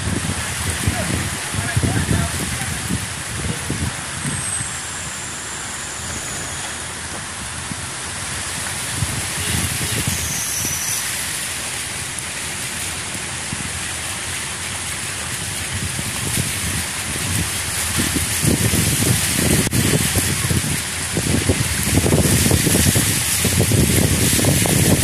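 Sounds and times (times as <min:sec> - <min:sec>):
car driving slowly: 0:00.0 - 0:25.0
floodwater churning around wheels: 0:00.0 - 0:25.0
heavy rain hiss: 0:00.0 - 0:25.0.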